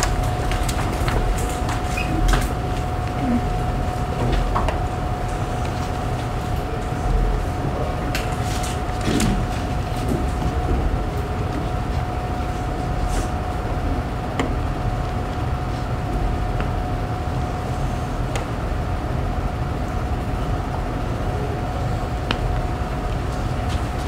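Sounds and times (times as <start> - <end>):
constant thin whine: 0.0 - 24.0
room rumble and hiss: 0.0 - 24.0.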